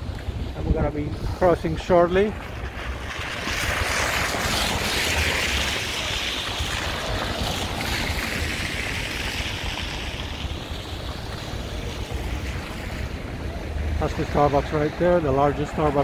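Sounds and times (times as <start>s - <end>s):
wind rumble on microphone: 0.0s - 16.0s
tyres hissing on wet snow: 0.9s - 16.0s.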